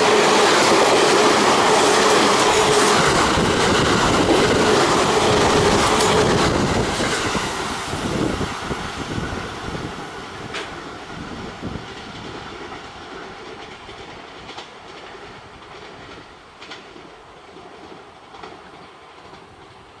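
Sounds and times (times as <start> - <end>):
electric train rumbling: 0.0 - 20.0
rail clacks: 0.0 - 20.0.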